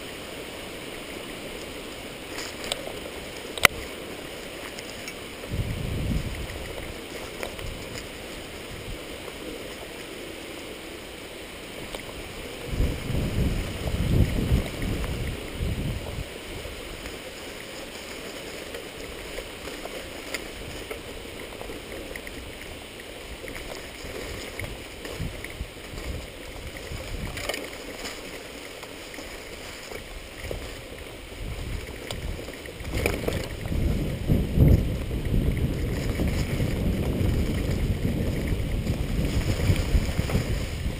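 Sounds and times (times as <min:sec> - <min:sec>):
bicycle tyres rumbling on dirt: 0:00.0 - 0:40.9
wind on microphone: 0:04.8 - 0:10.0, 0:11.6 - 0:40.9.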